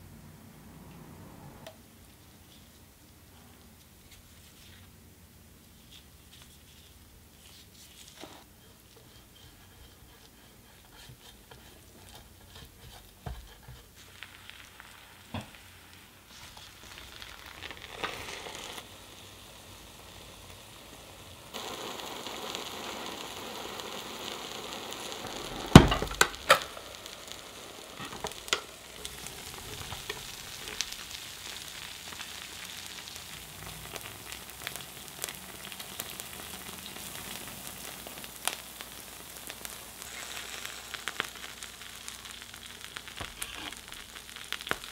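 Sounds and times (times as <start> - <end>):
sandwiches sizzling: 2.0 - 44.9.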